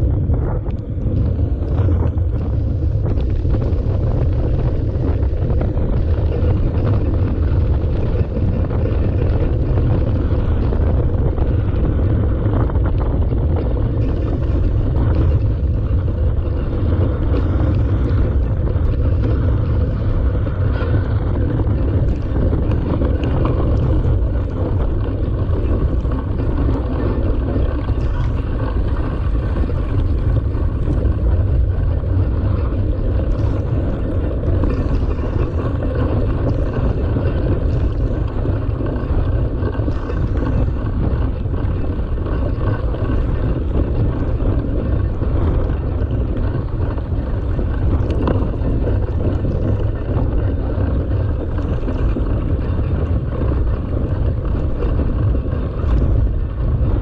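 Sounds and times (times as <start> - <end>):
bike rolling rumble: 0.0 - 57.0
wind buffeting microphone: 0.0 - 57.0.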